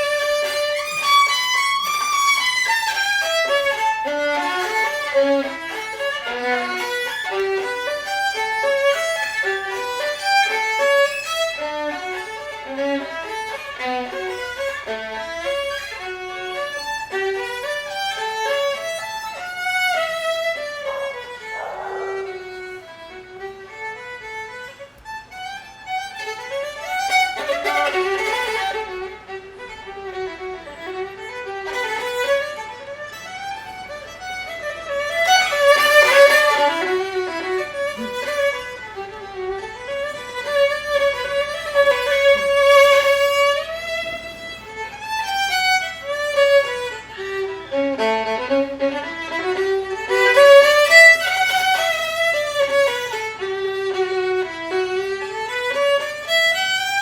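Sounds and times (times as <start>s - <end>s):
violin playing melody: 0.0s - 57.0s.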